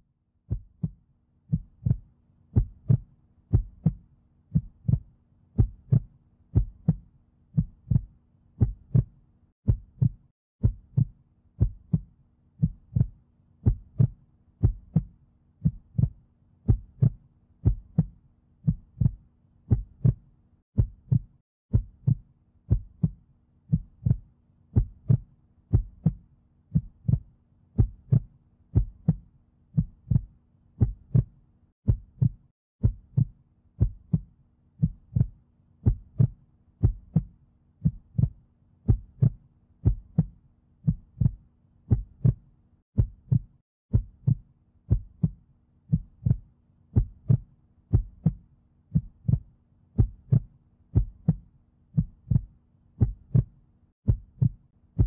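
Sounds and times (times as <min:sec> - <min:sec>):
heartbeat double thumps: 0:00.5 - 0:20.2, 0:20.8 - 0:29.2, 0:29.8 - 0:31.3, 0:31.9 - 0:42.4, 0:43.0 - 0:51.4, 0:52.0 - 0:53.5, 0:54.1 - 0:55.0.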